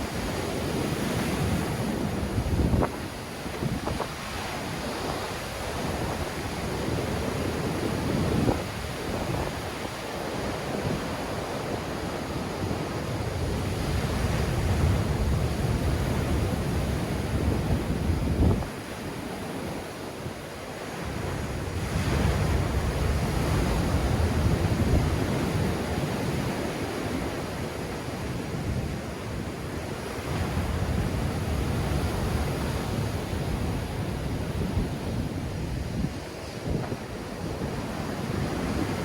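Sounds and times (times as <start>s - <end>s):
wind on microphone: 0.0s - 39.0s.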